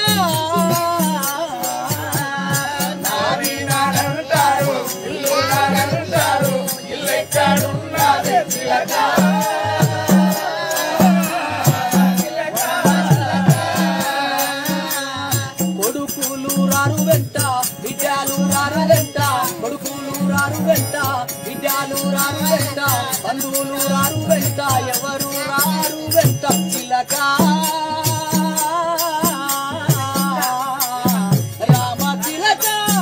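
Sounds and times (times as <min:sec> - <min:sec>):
harmonium melody: 0:00.0 - 0:33.0
jingling rattle percussion: 0:00.0 - 0:33.0.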